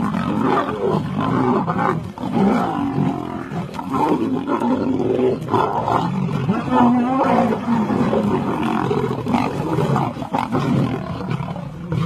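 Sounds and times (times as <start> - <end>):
lions snarling and growling: 0.0 - 12.0.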